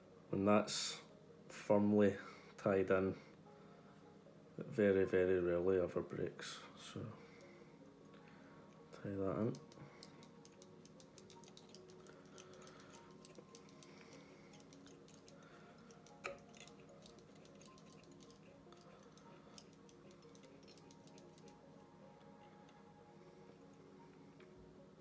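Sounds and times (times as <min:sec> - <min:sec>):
faint background music: 0:00.0 - 0:25.0.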